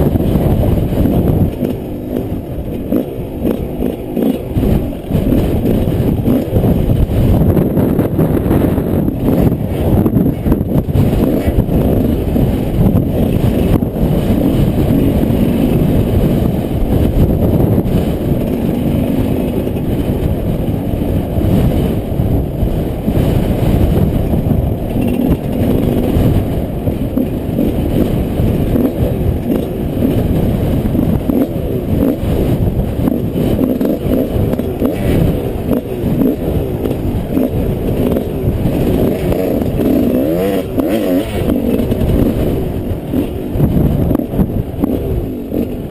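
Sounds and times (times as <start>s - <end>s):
off-road motorcycle engine running: 0.0s - 45.9s.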